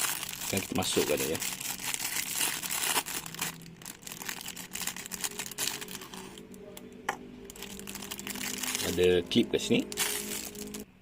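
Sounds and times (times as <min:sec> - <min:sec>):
crinkling rustle: 0:00.0 - 0:06.4, 0:07.5 - 0:09.1, 0:09.9 - 0:10.9.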